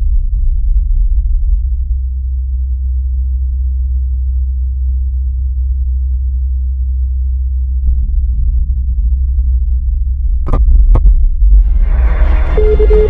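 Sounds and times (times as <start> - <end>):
deep hum: 0.0 - 13.0.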